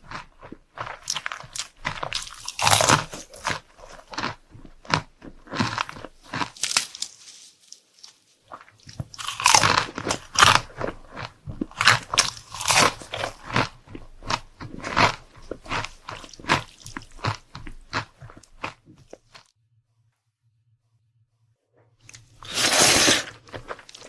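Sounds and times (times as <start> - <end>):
person chewing crunchy food: 0.0 - 19.5, 22.0 - 24.0.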